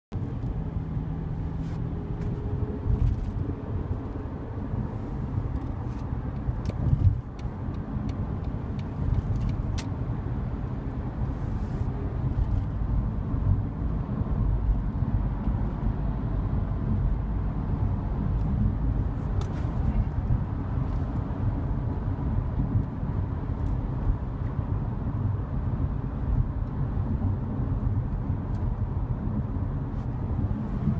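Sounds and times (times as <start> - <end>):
car interior rumble: 0.1 - 30.9.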